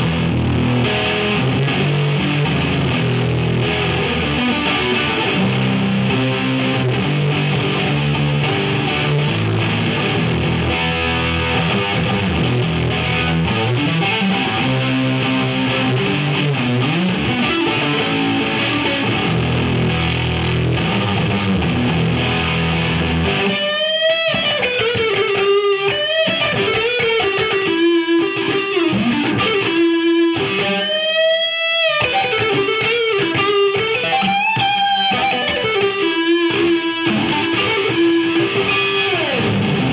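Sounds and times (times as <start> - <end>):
distorted electric guitar chords: 0.0 - 39.9
electric guitar lead line: 0.0 - 39.9.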